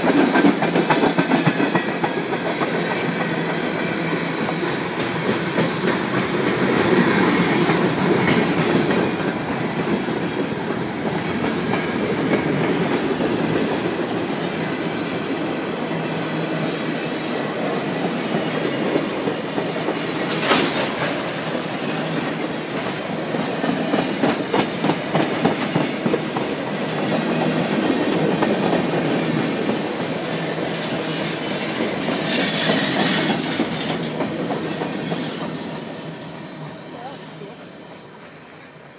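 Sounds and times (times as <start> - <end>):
wheels clacking on rail joints: 0.0 - 15.4, 17.0 - 36.2
train wheels rumbling on rail: 0.0 - 38.9.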